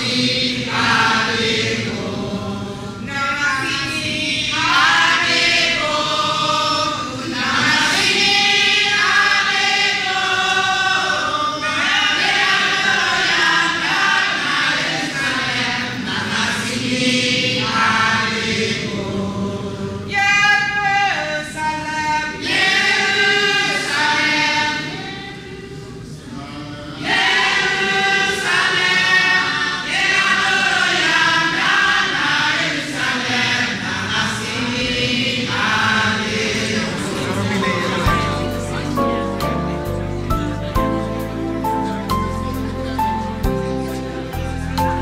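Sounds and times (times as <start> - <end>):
group of people singing in chorus: 0.0 - 40.7.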